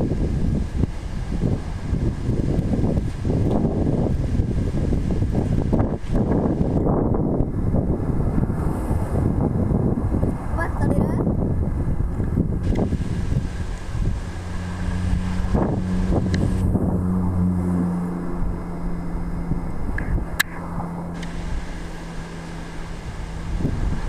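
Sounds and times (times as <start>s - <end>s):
low engine hum: 0.0s - 24.0s
wind rumbling on microphone: 0.0s - 24.0s.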